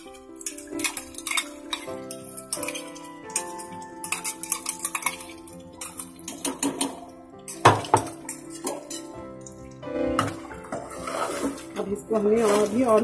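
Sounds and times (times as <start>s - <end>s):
metal utensils clanking on a pot: 0.0s - 13.0s.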